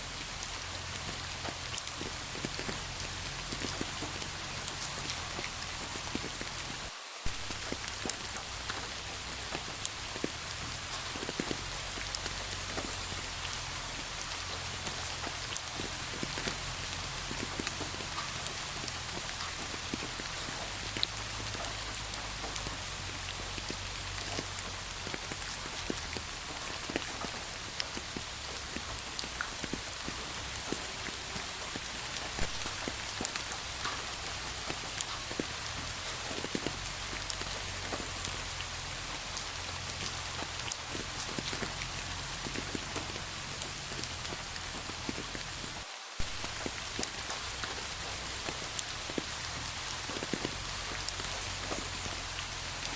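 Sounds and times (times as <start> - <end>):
raindrops ticking on a surface: 0.0 - 52.9
steady rain hiss: 0.0 - 52.9.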